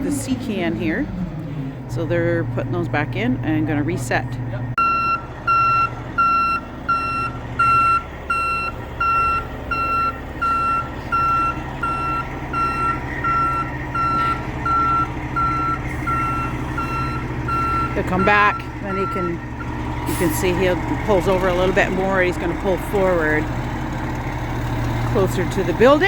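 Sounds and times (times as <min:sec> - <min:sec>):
diesel engine running: 0:00.0 - 0:26.0
crane backup alarm beeping: 0:03.7 - 0:26.0.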